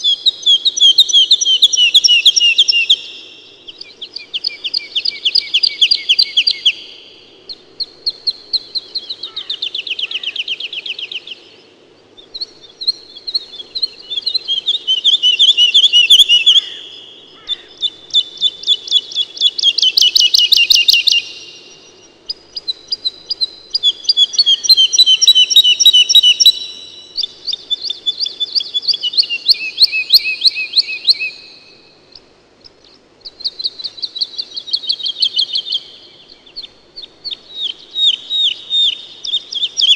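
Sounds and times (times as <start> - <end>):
swallow twittering: 0.0 - 39.9.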